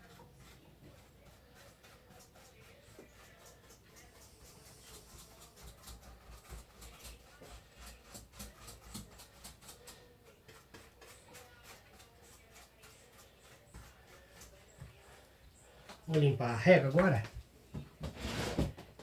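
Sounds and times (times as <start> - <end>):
paintbrush scrubbing: 0.0 - 17.3.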